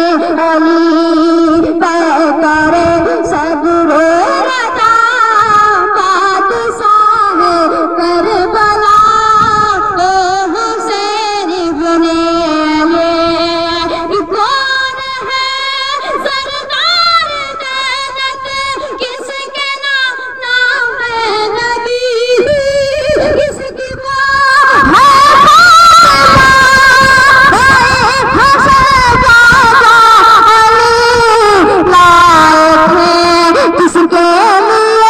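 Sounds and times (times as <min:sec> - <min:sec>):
boy singing into a microphone: 0:00.0 - 0:35.0.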